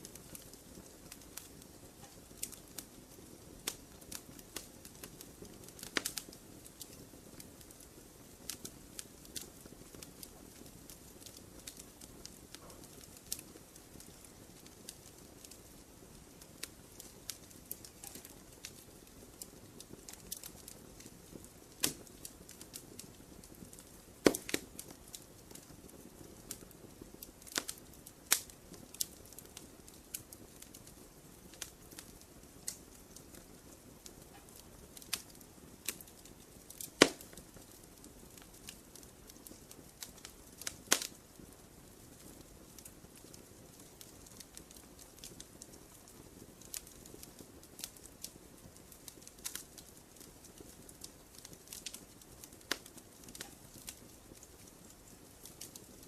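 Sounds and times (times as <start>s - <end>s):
campfire crackling and popping: 0.0s - 56.0s
soft hiss of flames: 0.0s - 56.0s.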